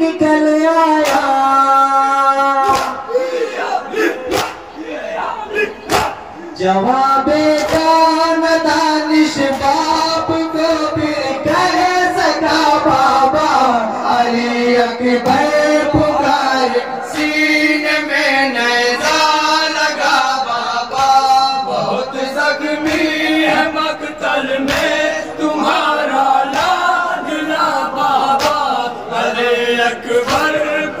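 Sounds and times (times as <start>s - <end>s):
men chanting through loudspeakers: 0.0s - 31.0s.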